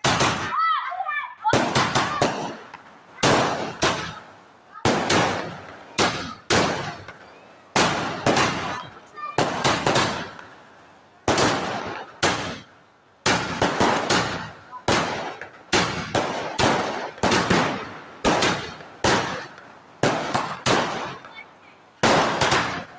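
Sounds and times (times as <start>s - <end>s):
firecrackers banging: 0.0s - 22.9s.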